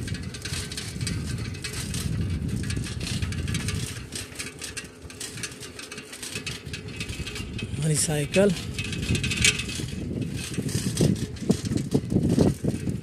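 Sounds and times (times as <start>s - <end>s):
bicycle parts rattling: 0.0s - 13.0s
bicycle wind and road rumble: 0.0s - 13.0s.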